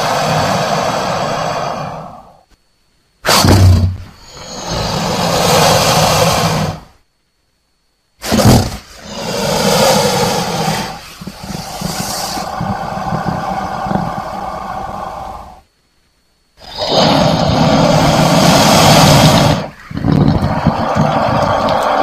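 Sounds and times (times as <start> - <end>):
crocodile hissing and growling: 0.0 - 2.4, 3.2 - 7.0, 8.2 - 15.7, 16.6 - 22.0.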